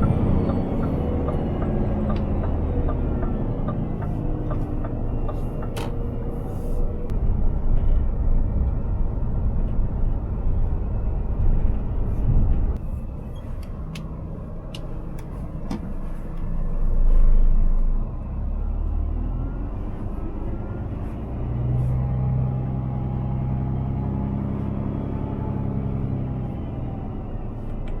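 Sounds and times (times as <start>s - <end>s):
pitched engine hum: 0.0s - 28.0s
truck diesel engine rumbling: 0.0s - 28.0s.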